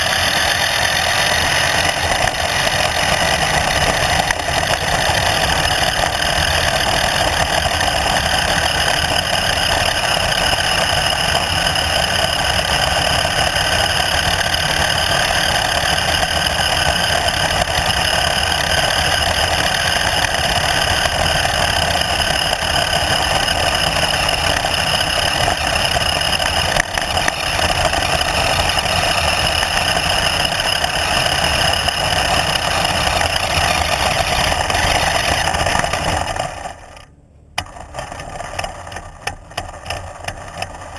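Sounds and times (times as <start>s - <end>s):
engine droning with high whine: 0.0s - 40.9s.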